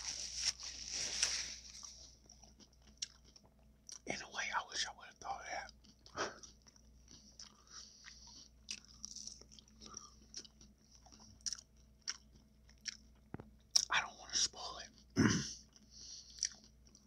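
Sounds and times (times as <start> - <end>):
person chewing and crunching food: 0.0 - 17.0.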